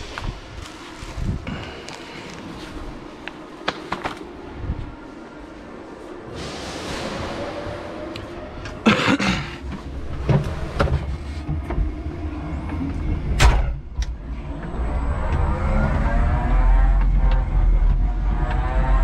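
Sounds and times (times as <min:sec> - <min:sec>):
low forklift hum: 0:00.0 - 0:19.0.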